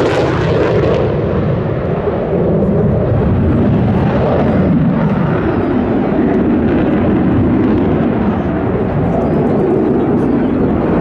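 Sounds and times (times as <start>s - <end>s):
fighter jet engine roaring: 0.0s - 11.0s.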